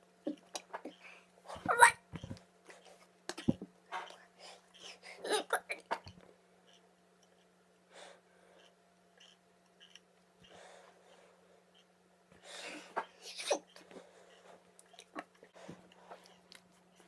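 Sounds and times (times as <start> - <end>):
soft breaths: 0.2 - 1.7, 2.6 - 5.3, 6.6 - 17.0.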